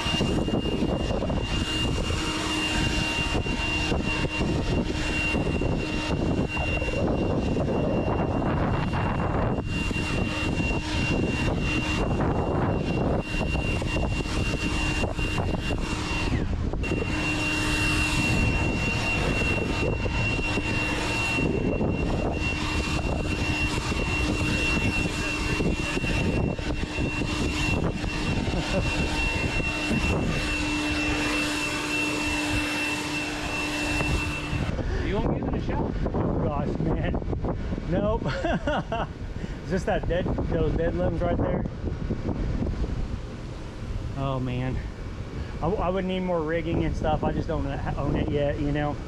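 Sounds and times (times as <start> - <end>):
high-pitched whine: 0.0 - 49.0
machine engine running: 0.0 - 49.0.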